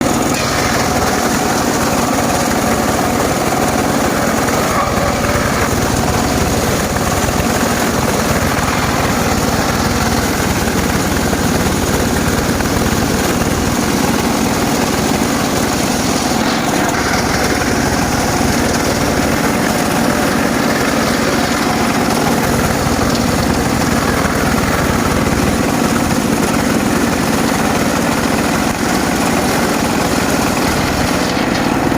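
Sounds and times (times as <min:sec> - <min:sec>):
circular saw cutting wood: 0:00.0 - 0:31.9.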